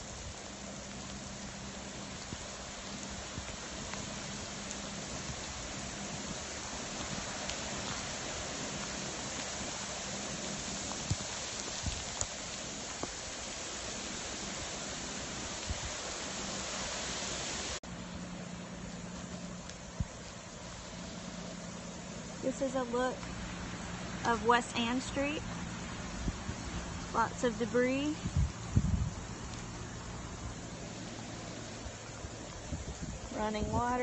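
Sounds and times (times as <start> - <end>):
rain and wind hissing: 0.0 - 34.0.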